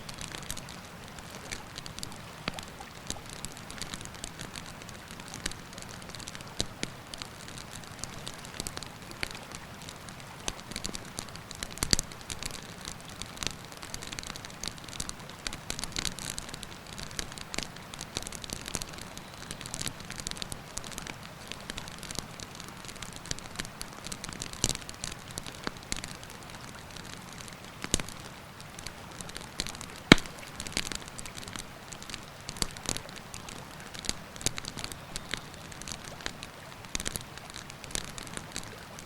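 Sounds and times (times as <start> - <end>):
campfire crackling and popping: 0.0 - 39.0
rushing river water: 0.0 - 39.0.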